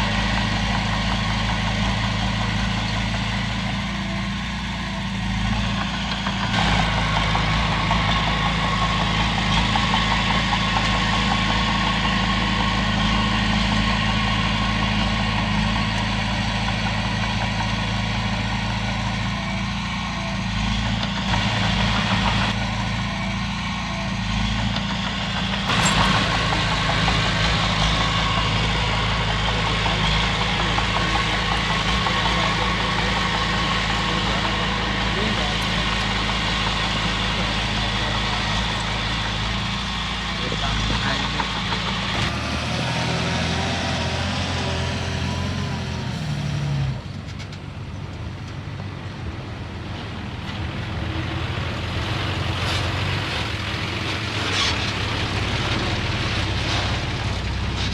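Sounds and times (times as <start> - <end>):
bulldozer diesel engine running: 0.0 - 57.9.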